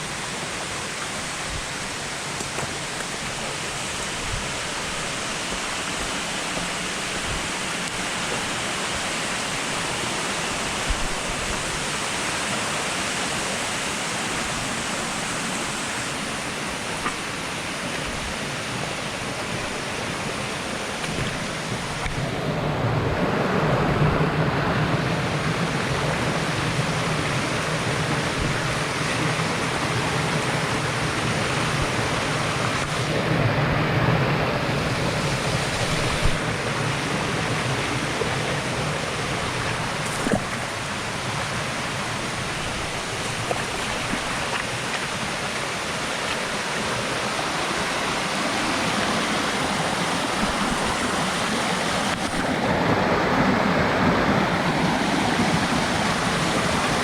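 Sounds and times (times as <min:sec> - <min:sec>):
rush of flowing water: 0:00.0 - 0:57.0.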